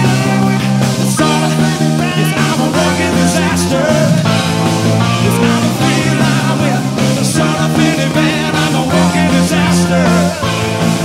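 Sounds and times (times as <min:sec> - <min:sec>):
drums: 0:00.0 - 0:11.0
electric guitar: 0:00.0 - 0:11.0
live rock band playing: 0:00.0 - 0:11.0
man singing: 0:00.0 - 0:11.0.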